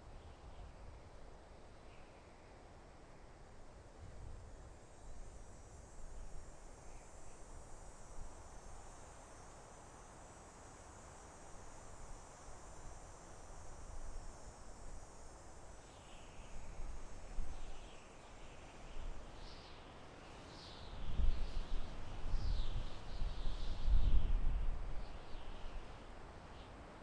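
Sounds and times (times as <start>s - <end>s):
wind rustling trees: 0.0s - 27.0s
faint insect trill: 0.2s - 27.0s.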